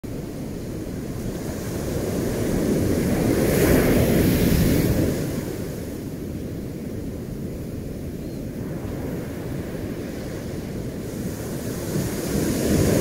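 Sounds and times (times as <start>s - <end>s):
ocean waves washing in: 0.1s - 13.0s.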